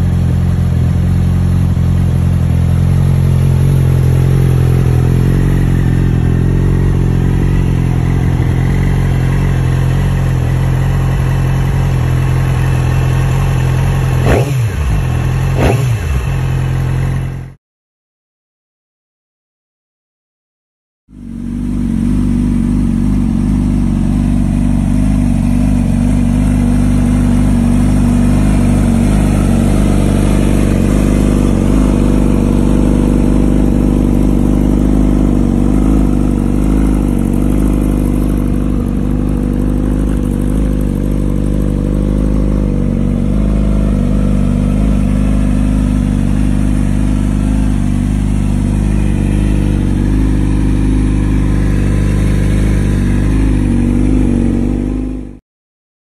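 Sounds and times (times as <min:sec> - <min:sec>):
motorcycle engine idling: 0:00.0 - 0:17.6, 0:21.1 - 0:55.4.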